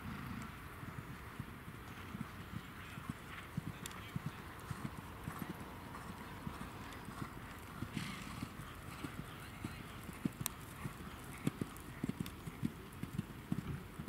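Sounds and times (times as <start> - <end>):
horse hooves cantering on grass: 0.1 - 14.0.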